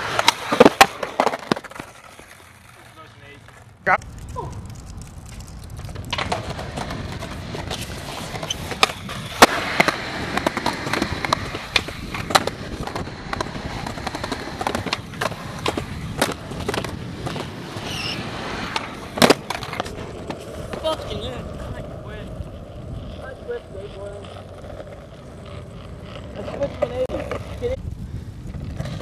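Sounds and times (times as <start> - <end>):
skateboard clacks: 0.0 - 2.8, 3.4 - 27.8
skateboard wheels rolling on concrete: 0.0 - 29.0.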